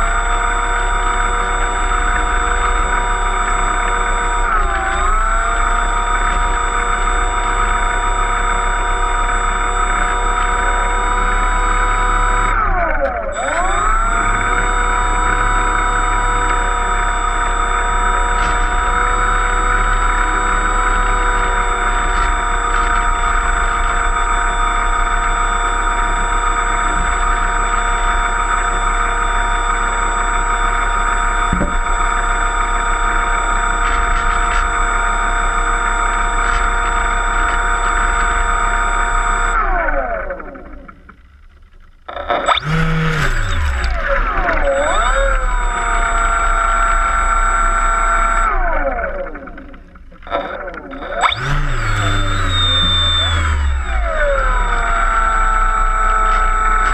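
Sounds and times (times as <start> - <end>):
electric motor whine: 0.0 - 56.9.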